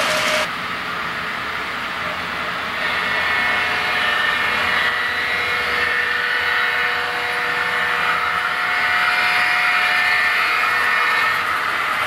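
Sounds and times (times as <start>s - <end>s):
model train wheels whirring: 0.0s - 12.0s.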